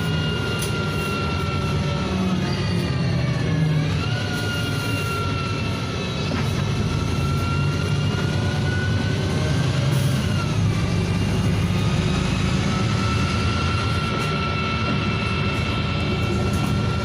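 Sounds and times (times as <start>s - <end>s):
bus diesel engine rumble: 0.0s - 17.0s
thin drivetrain whine: 0.0s - 17.0s.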